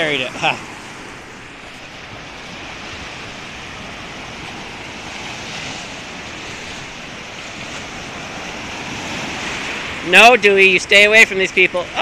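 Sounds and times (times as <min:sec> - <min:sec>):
waves washing onto sandy shore: 0:00.0 - 0:12.0.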